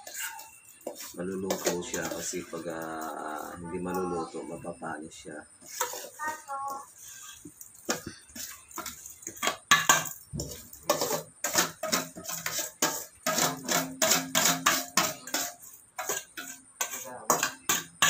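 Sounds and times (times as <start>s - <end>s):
metal spoon scraping a pot: 0.0s - 4.4s, 5.6s - 18.0s
frying in oil: 0.0s - 18.0s.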